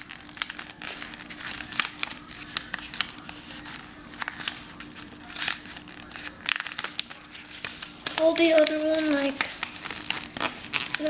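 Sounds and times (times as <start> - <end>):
paper being folded: 0.0 - 11.0.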